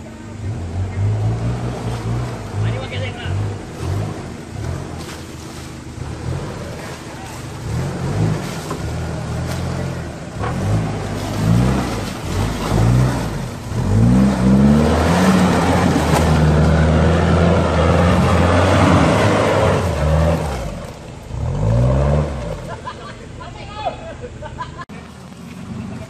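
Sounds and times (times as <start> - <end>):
diesel engine revving: 0.0 - 23.0
tyres churning through mud: 0.4 - 26.0.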